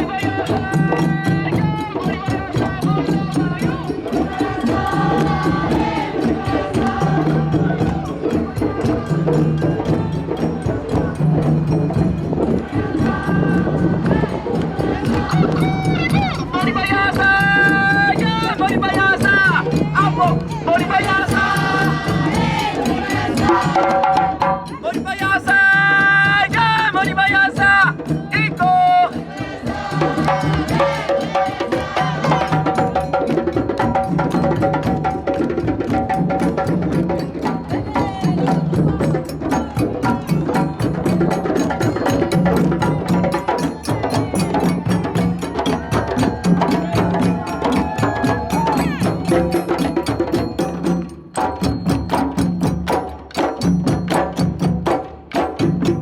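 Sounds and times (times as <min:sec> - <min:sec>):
clacking percussion: 0:00.0 - 0:56.0
drum ensemble playing: 0:00.0 - 0:56.0
group singing: 0:00.0 - 0:56.0.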